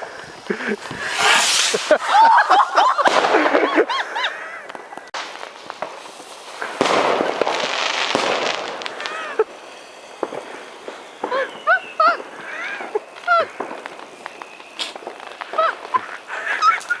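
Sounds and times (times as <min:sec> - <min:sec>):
fireworks crackling and popping: 0:00.0 - 0:17.0
fireworks whistling: 0:00.0 - 0:17.0.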